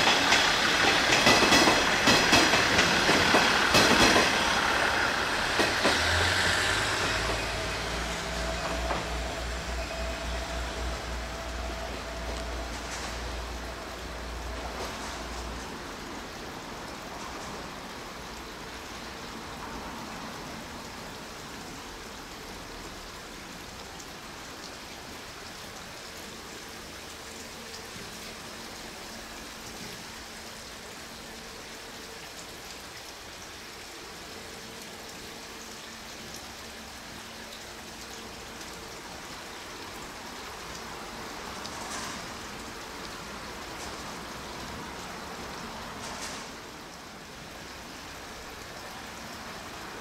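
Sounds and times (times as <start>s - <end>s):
railcar running hiss: 0.0s - 50.0s.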